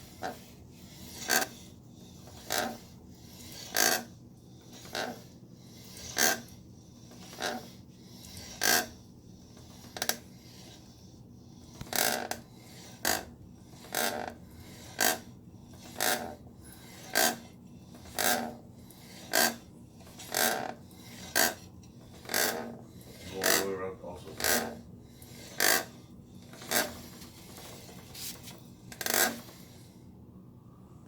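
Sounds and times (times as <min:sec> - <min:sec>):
motorcycle rear wheel scraping: 0:00.0 - 0:04.1, 0:04.7 - 0:06.5, 0:07.1 - 0:09.0, 0:11.7 - 0:29.9.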